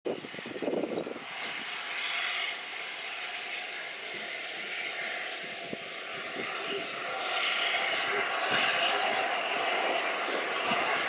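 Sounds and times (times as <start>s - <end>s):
steam locomotive hissing steam: 0.4s - 11.0s.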